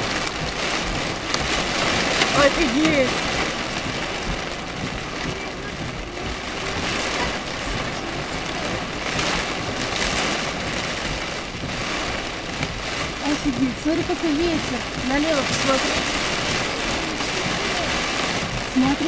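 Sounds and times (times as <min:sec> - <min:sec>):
heavy rain and wind on car: 0:00.0 - 0:19.0
tyre noise on wet road: 0:00.0 - 0:19.0.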